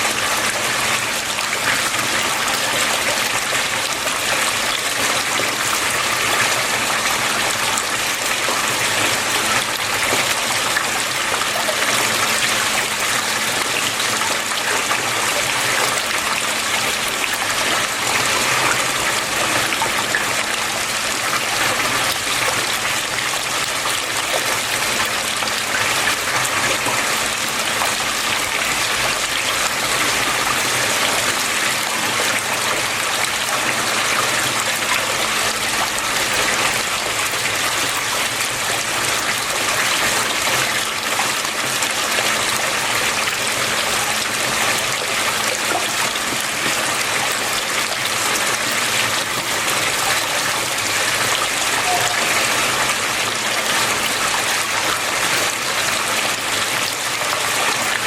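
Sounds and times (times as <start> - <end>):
water flowing and splashing: 0.0 - 58.0.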